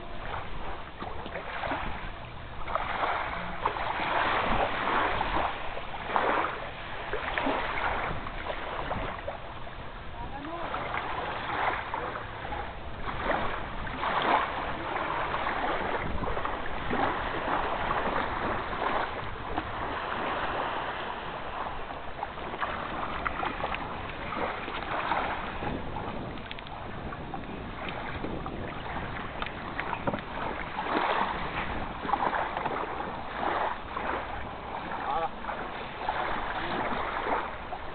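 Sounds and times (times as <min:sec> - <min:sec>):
water splashing around boat: 0:00.0 - 0:37.9.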